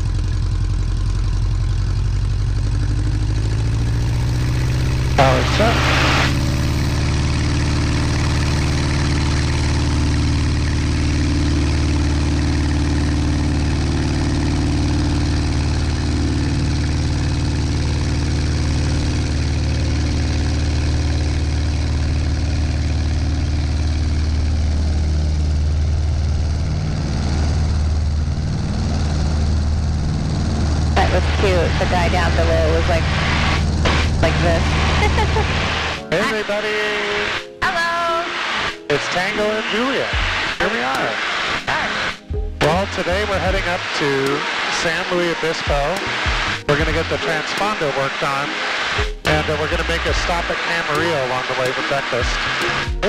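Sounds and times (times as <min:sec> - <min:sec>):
propeller plane engine at full power: 0:00.0 - 0:53.0.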